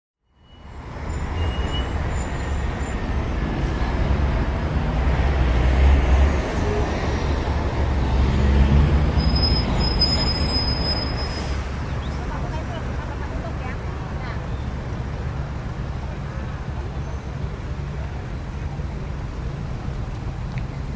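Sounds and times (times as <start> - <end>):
passing vehicles: 0.3 - 20.9.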